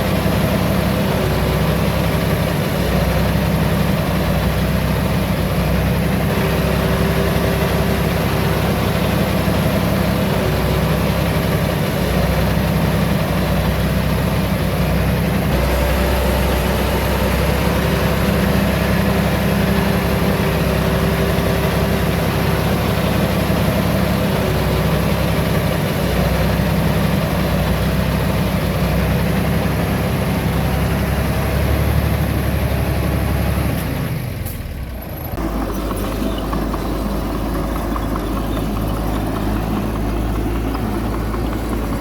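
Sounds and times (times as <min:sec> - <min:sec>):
diesel engine of heavy machinery: 0:00.0 - 0:42.0.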